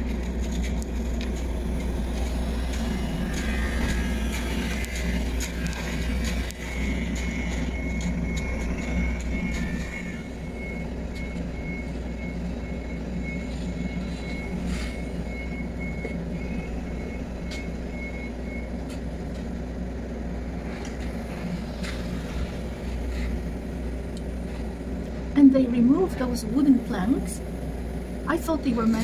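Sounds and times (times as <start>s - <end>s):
construction machine engine drone: 0.0s - 29.0s.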